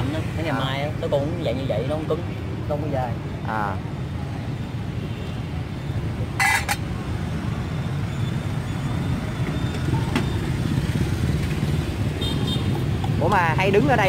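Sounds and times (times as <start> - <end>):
motorbike traffic rumble: 0.0 - 14.0.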